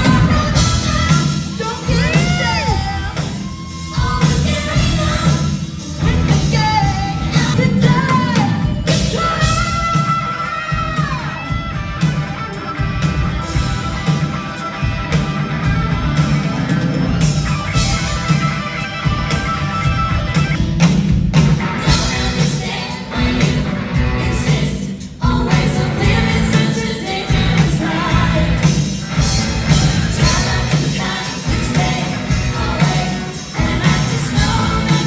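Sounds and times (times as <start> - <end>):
loud rock music with singing: 0.0 - 35.0.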